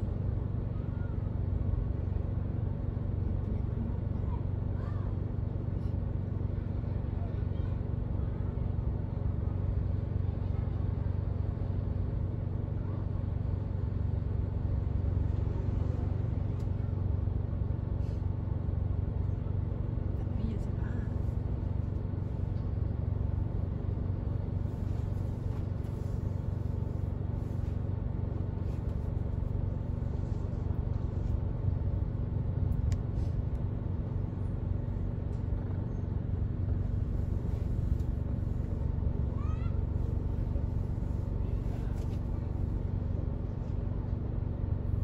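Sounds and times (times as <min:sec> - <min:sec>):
car idling from inside: 0:00.0 - 0:45.0.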